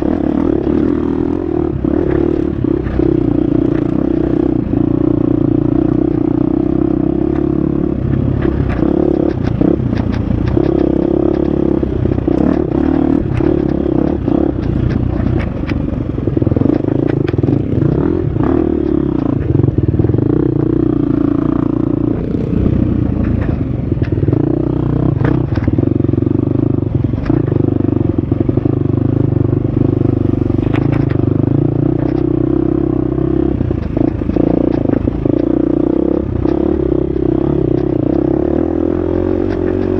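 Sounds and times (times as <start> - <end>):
dirt bike engine revving: 0.0 - 15.4, 16.3 - 39.9.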